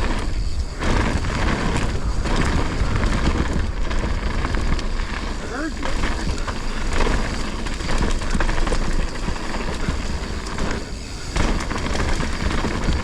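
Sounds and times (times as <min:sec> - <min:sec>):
bike tyres on dirt and rock: 0:00.0 - 0:13.0
wind rumbling on microphone: 0:00.0 - 0:13.0.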